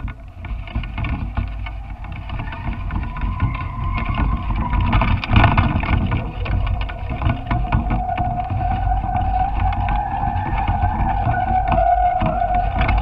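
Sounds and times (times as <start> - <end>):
irregular rattling ticks: 0.0 - 13.0
thin steady whine: 0.0 - 13.0
wind buffeting microphone: 0.0 - 13.0.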